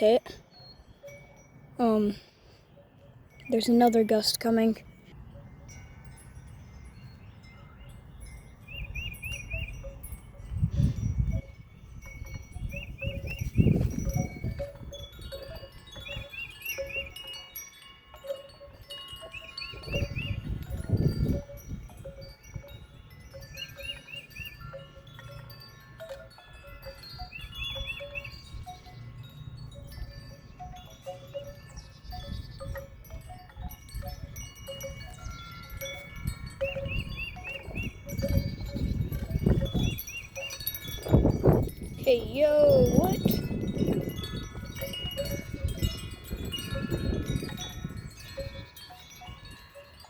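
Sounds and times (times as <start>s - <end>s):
wind chimes ringing: 0.0s - 50.0s
wind gusting over microphone: 4.9s - 17.2s, 18.5s - 23.9s, 26.5s - 50.0s.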